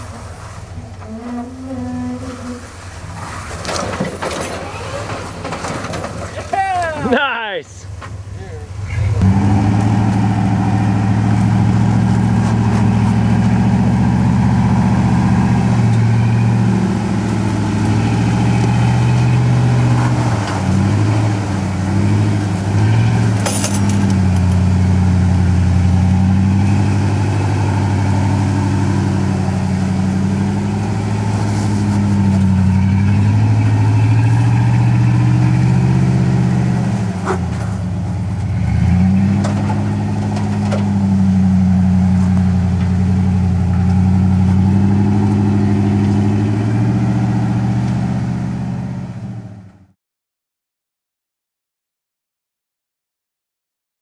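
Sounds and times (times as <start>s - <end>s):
buggy engine under load: 0.0s - 50.0s.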